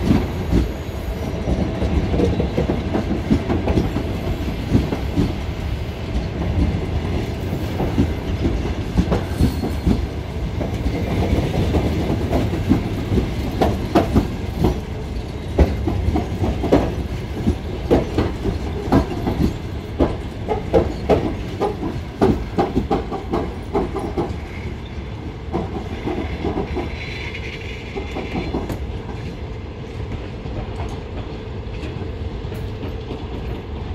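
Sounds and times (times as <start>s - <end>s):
train wheels clattering over rail joints: 0.0s - 29.4s, 30.0s - 33.8s
train rumble: 0.0s - 33.9s.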